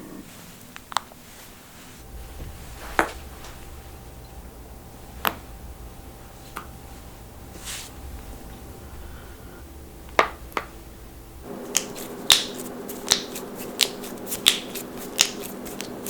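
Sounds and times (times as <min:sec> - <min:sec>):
soft hiss: 0:00.1 - 0:16.0.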